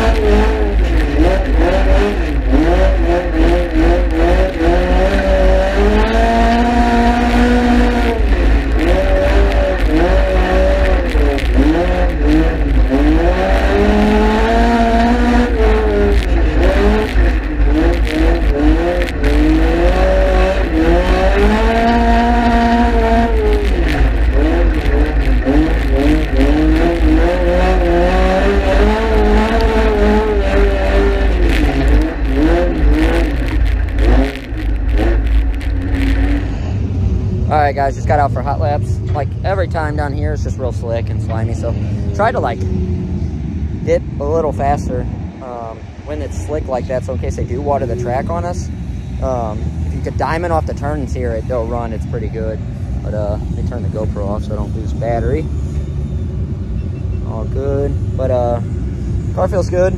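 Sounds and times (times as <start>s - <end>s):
heavy low engine rumble: 0.0s - 59.9s
race car engine revving: 0.0s - 59.9s.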